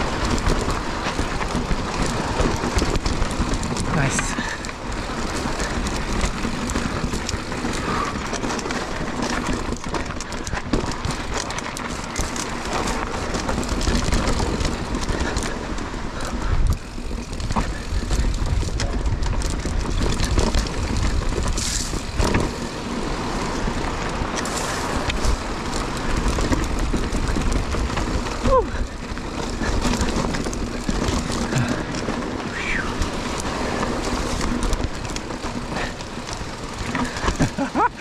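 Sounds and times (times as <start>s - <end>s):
bike clicks and rattles: 0.0s - 38.0s
bike tyres crunching over dirt: 0.0s - 38.0s
wind rumble on microphone: 0.0s - 38.0s.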